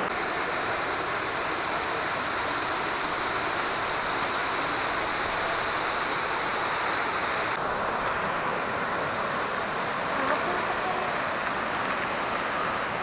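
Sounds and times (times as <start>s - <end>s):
waterfalls rushing: 0.0s - 13.0s.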